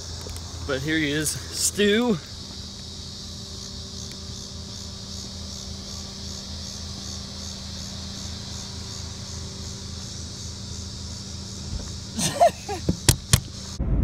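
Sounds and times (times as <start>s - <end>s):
car engine idling: 0.0s - 13.9s
insects chirping: 0.0s - 14.0s.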